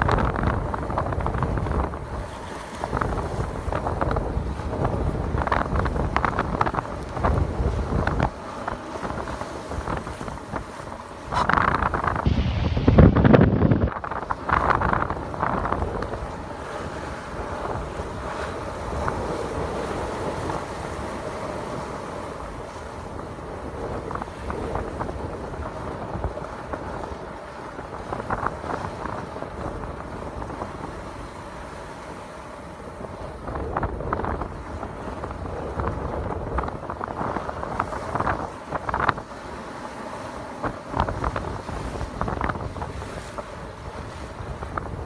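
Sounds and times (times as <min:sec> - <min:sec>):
sea rushing past hull: 0:00.0 - 0:45.0
wind buffeting microphone: 0:00.0 - 0:45.0.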